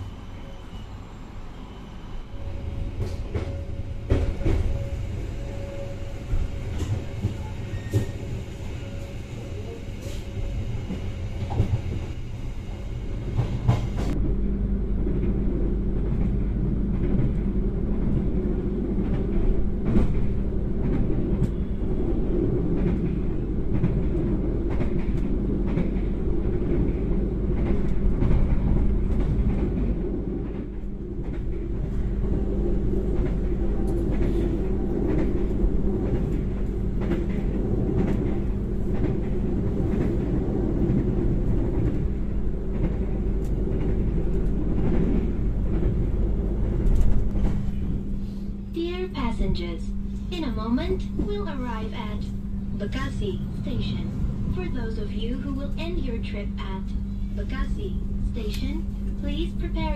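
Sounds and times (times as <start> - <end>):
train rumbling on rails: 0.0 - 59.9
constant hum: 2.4 - 59.9.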